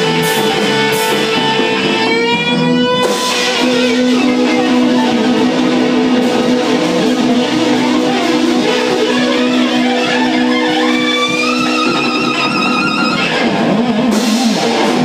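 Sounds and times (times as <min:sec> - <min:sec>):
band playing: 0:00.0 - 0:15.0
electric guitar sustained notes: 0:00.0 - 0:15.0.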